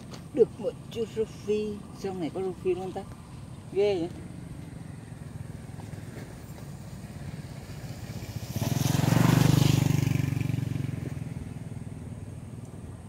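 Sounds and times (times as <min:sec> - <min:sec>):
motorbike driving past: 0:00.4 - 0:13.0.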